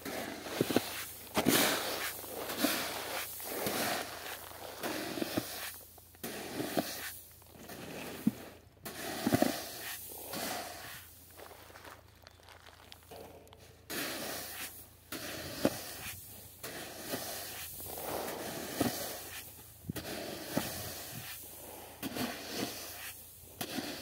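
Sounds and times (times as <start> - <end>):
grain hissing and rattling: 0.0 - 24.0.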